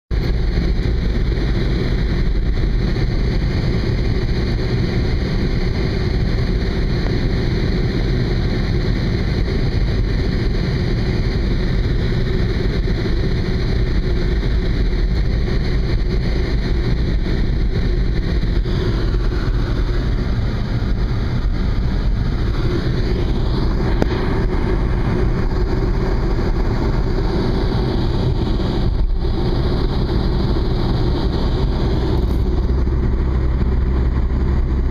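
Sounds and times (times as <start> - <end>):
car road noise and wind rumble: 0.1 - 34.9.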